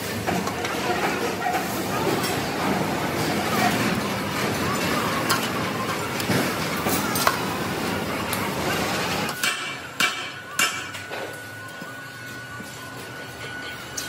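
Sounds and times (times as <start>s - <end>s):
factory machinery noise: 0.0s - 14.0s.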